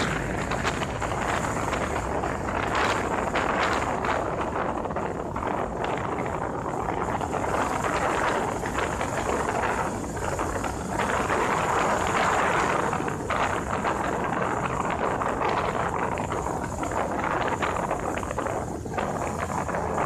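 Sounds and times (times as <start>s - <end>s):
vehicle road noise: 0.0s - 20.0s
wind buffeting microphone: 0.0s - 20.0s.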